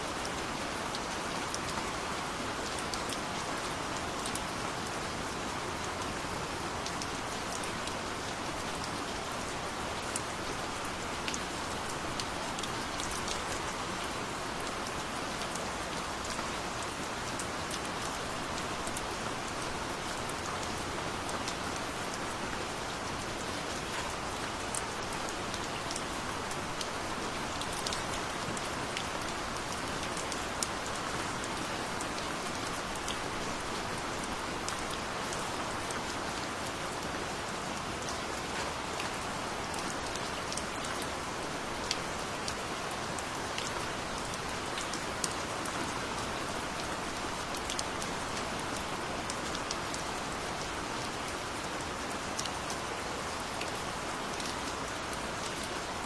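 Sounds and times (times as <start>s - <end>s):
gentle rain hiss: 0.0s - 56.0s.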